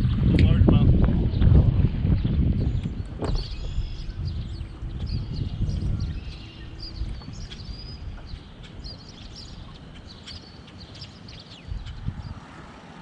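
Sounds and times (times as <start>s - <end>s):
wind rumbling on microphone: 0.0s - 13.0s
small birds chirping and trilling: 1.3s - 12.6s.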